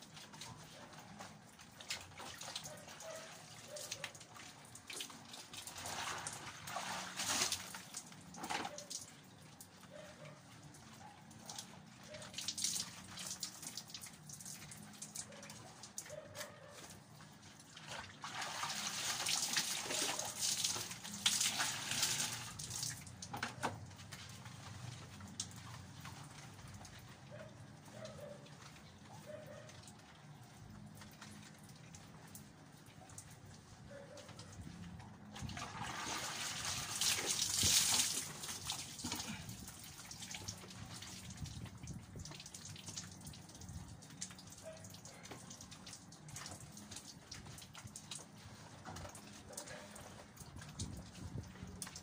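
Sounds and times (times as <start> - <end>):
water splashing and dripping: 0.0 - 52.0.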